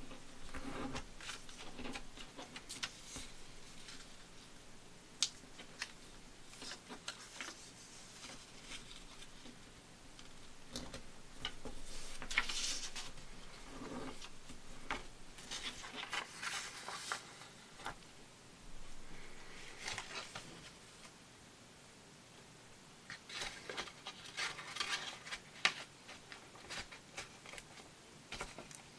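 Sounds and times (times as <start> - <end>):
paper rustling and crinkling: 0.0 - 4.5, 5.2 - 9.6, 10.2 - 18.0, 18.7 - 21.1, 23.1 - 28.9.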